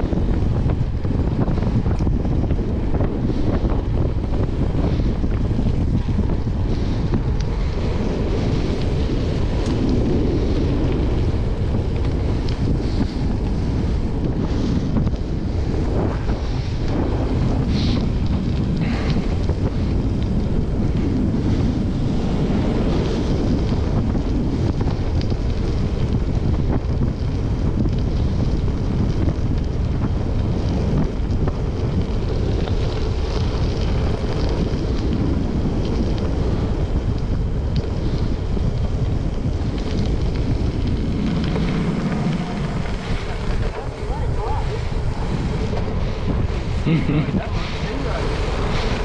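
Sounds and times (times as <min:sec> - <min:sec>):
bicycle rolling over gravel: 0:00.0 - 0:49.0
wind buffeting microphone: 0:00.0 - 0:49.0.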